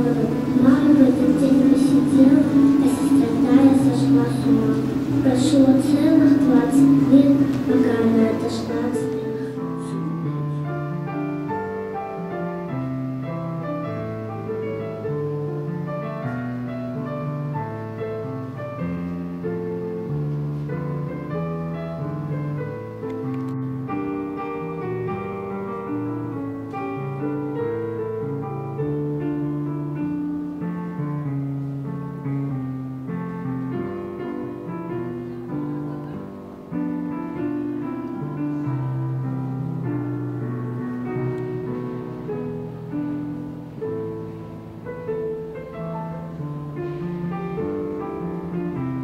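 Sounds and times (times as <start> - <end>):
slow piano music: 0.0 - 49.0.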